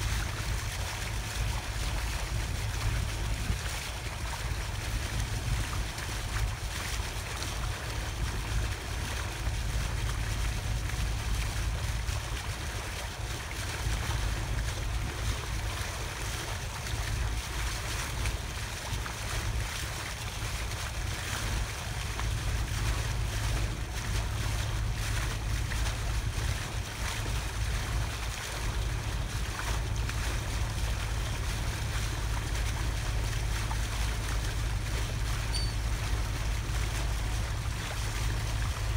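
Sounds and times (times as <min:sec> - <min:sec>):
boat engine rumble: 0:00.0 - 0:38.9
water washing past hull: 0:00.0 - 0:38.9.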